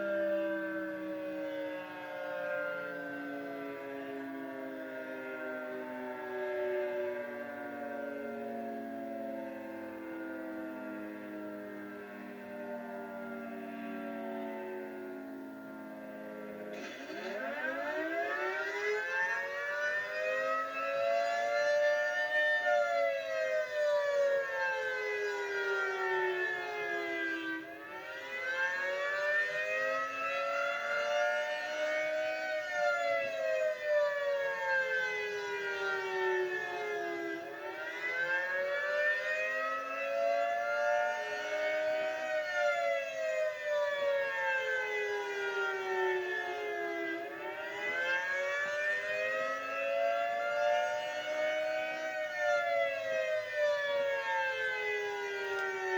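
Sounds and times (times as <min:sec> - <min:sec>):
warning siren wailing: 0:00.0 - 0:55.9.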